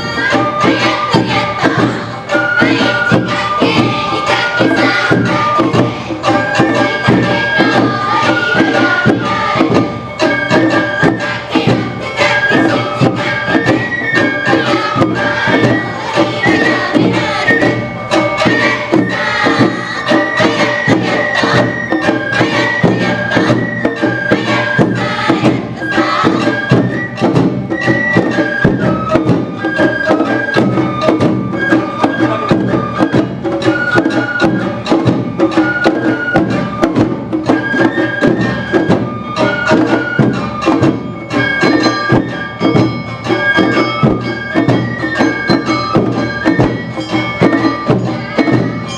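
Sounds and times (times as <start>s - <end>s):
drums and percussion beat: 0.0s - 48.9s
high bamboo flute melody: 0.0s - 48.9s.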